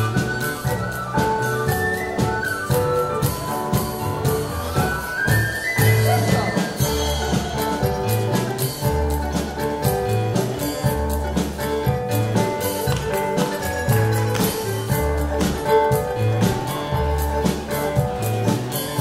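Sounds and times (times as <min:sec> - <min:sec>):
dance band playing lively tune: 0:00.0 - 0:19.0.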